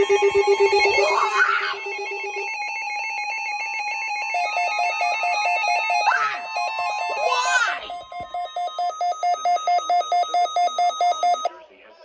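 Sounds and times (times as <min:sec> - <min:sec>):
pulsing electronic alert beep: 0:00.0 - 0:11.5.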